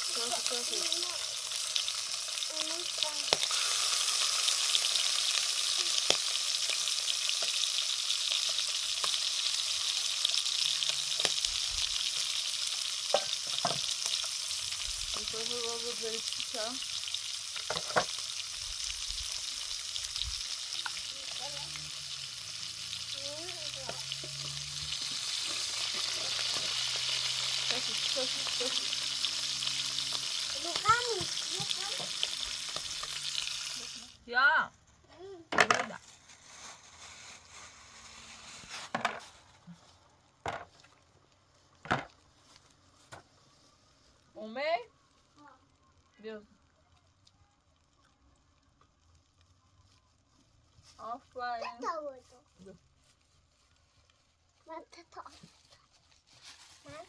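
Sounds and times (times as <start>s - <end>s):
food sizzling in a pan: 0.0s - 34.6s, 35.6s - 57.0s.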